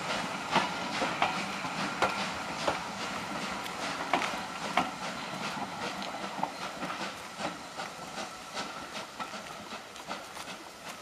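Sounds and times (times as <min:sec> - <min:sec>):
steady hiss: 0:00.0 - 0:11.0
train wheels clicking over rail joints: 0:00.0 - 0:11.0.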